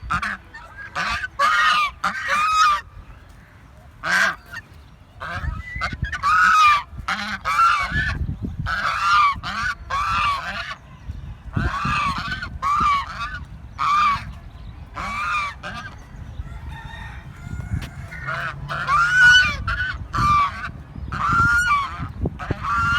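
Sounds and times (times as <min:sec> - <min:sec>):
geese honking: 0:00.0 - 0:10.9, 0:11.5 - 0:22.9.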